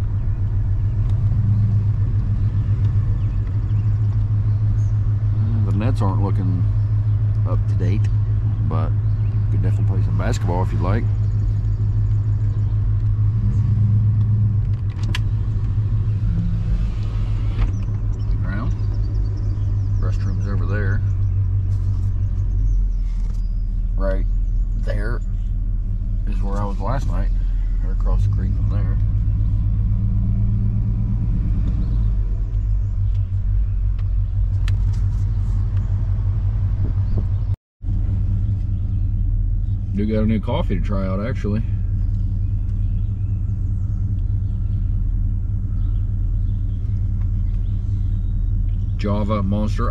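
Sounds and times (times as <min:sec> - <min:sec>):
engine and road rumble: 0:00.0 - 0:49.9.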